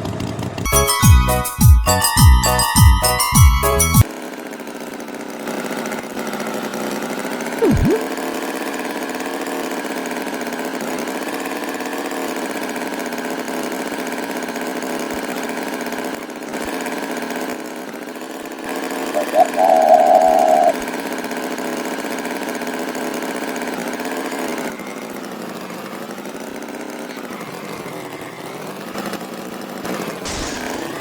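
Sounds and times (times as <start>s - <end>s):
cartoon tractor engine running: 0.0s - 31.0s.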